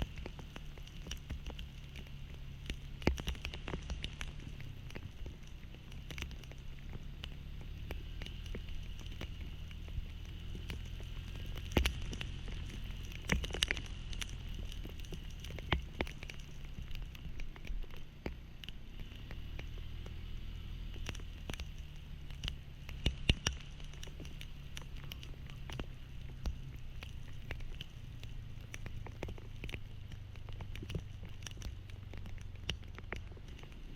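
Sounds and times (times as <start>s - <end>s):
low steady hum: 0.0s - 33.9s
rain pattering: 0.0s - 33.9s.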